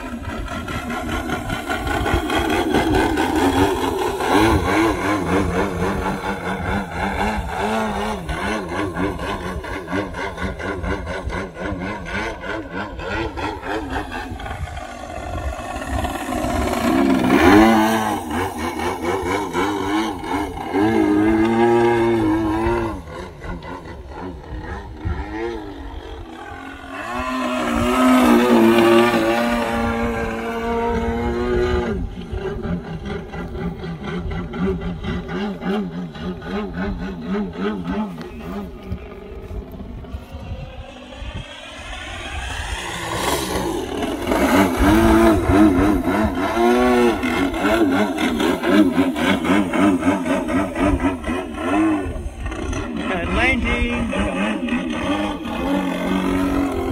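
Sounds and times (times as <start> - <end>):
model plane engine in flight: 0.0 - 56.9.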